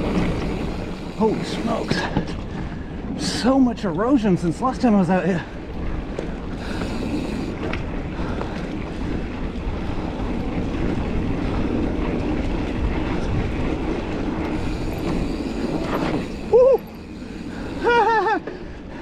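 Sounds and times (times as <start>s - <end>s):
bike tyres rolling on dirt: 0.0s - 19.0s
wind buffeting microphone: 0.0s - 19.0s.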